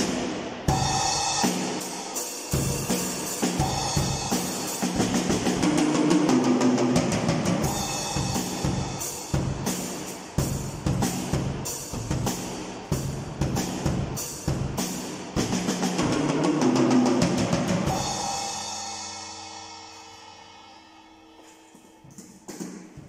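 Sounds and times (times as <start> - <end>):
drum kit playing: 0.0 - 20.8.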